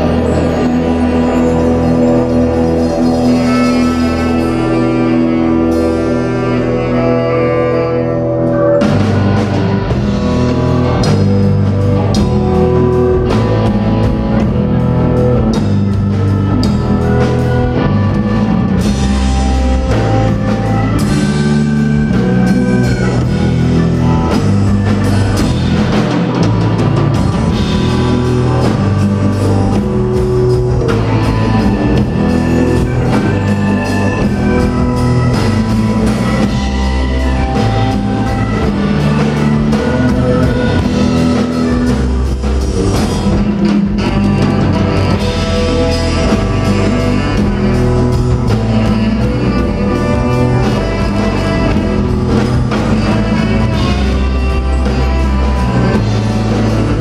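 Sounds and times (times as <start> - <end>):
rock band playing: 0.0 - 57.0
drum kit beat: 8.4 - 57.0.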